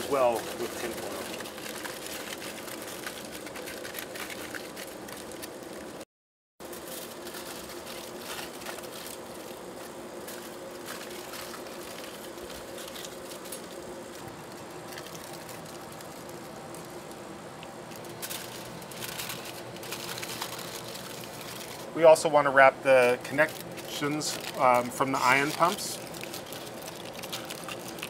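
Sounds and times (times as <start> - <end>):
aluminium foil crinkling: 0.0 - 6.0, 6.6 - 28.0
lab equipment hum: 0.0 - 6.0, 6.6 - 28.0.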